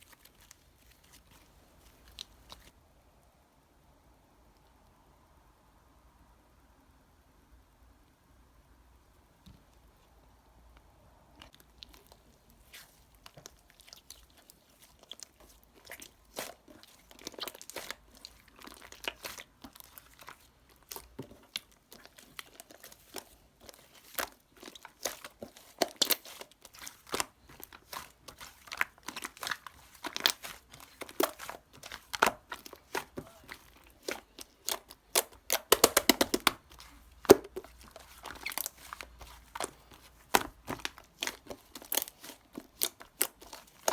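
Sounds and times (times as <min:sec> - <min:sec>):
crinkling and tearing by hand: 0:00.0 - 0:02.7, 0:11.4 - 0:43.9.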